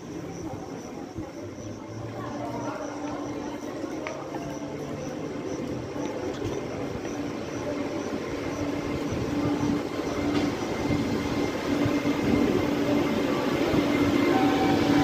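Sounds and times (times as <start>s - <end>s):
electric train running slowly: 0.0s - 15.0s.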